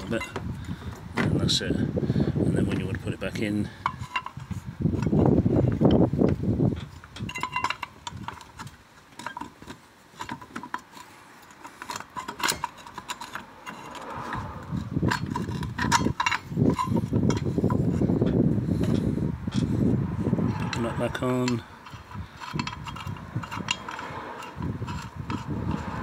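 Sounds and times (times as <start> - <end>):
metallic clicks and rattles: 3.8 - 19.8, 20.4 - 26.0.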